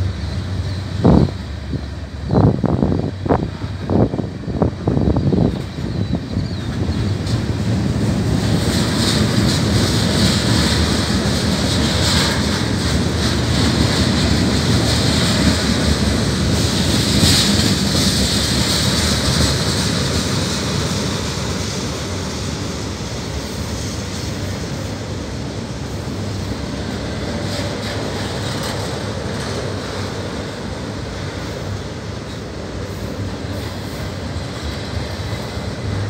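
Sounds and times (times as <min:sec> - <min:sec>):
freight train rolling past: 0:00.0 - 0:36.0
steel wheels rumbling on rails: 0:00.0 - 0:36.0.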